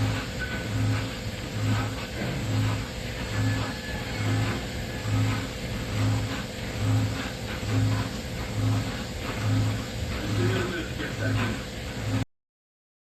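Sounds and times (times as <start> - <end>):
machine tool pulsing hum: 0.0 - 12.3.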